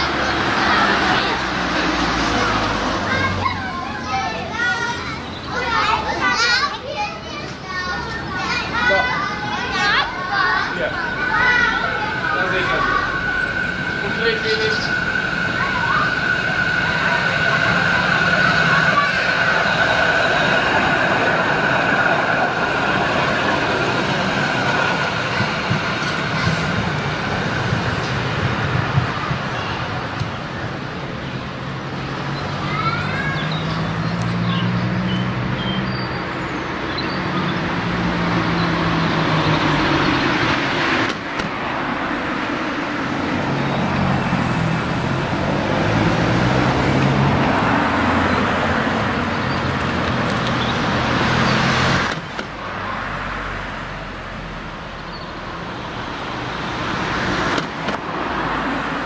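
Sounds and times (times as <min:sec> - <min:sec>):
road traffic noise: 0:00.0 - 0:59.0
tram whine: 0:00.0 - 0:59.0.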